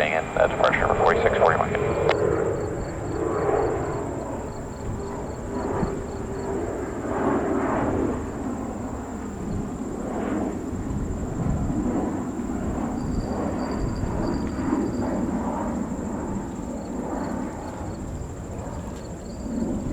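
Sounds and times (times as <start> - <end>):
jet airliner engine rumble: 0.0 - 19.9.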